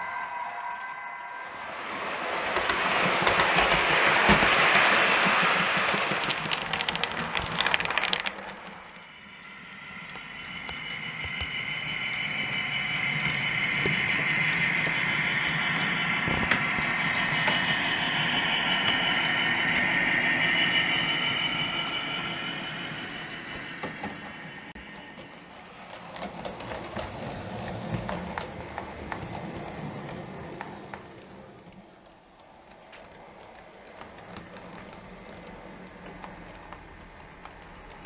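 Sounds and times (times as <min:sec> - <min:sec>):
wagons clicking over track: 0:01.8 - 0:38.0.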